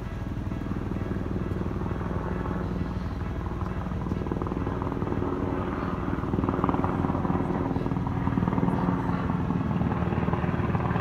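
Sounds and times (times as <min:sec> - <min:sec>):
helicopter rotor chop: 0:00.0 - 0:11.0
low engine hum: 0:00.0 - 0:11.0.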